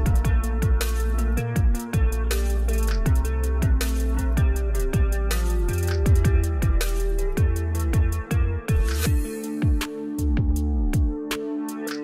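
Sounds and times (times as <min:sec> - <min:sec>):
kick drums: 0:00.0 - 0:11.4
crisp hi-hat: 0:00.0 - 0:12.0.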